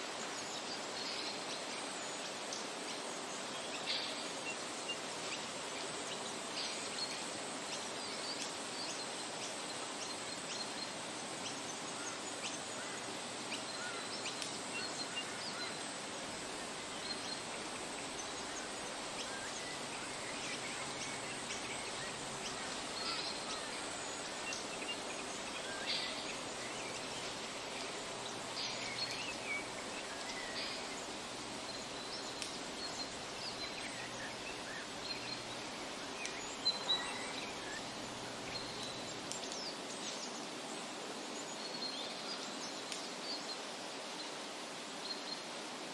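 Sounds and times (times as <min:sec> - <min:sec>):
outdoor background hiss: 0:00.0 - 0:45.9.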